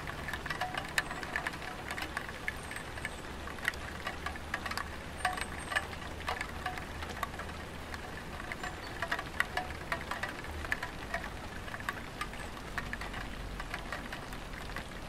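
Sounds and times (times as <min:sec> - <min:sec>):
faint steady rumble: 0:00.0 - 0:15.0
rain drops tapping on roof tiles: 0:00.0 - 0:15.0.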